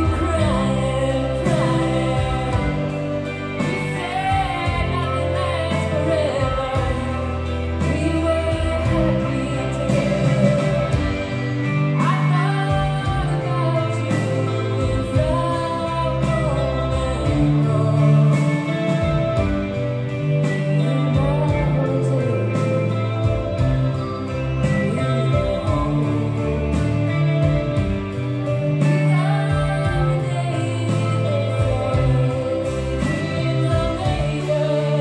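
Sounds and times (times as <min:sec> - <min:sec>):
live rock band playing: 0:00.0 - 0:35.0
woman singing lead: 0:00.0 - 0:35.0.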